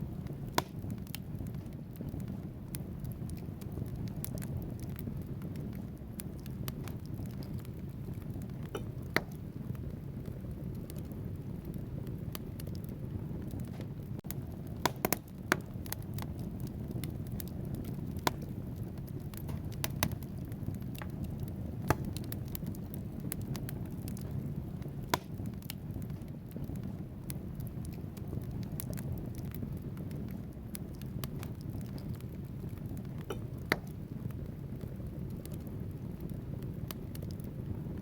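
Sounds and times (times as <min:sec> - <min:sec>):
logs crackling and popping: 0:00.0 - 0:38.0
low rumble of flames: 0:00.0 - 0:38.0.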